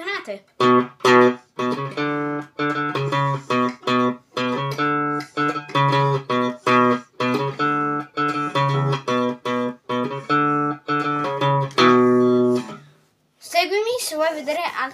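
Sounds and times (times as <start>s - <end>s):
electric guitar riff: 0.6s - 12.9s.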